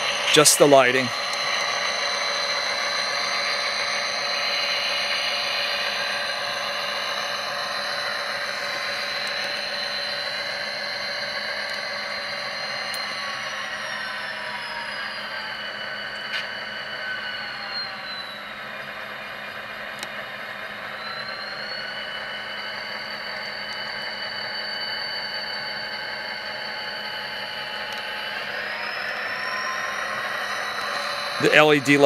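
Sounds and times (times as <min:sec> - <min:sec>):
model locomotive diesel engine sound: 0:00.0 - 0:32.0.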